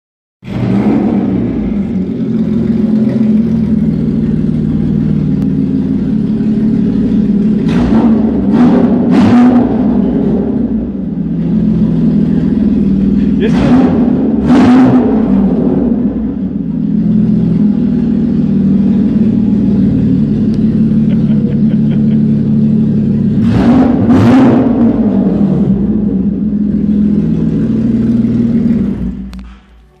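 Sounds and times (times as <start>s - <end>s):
car exhaust idling and revving: 0.4s - 30.0s.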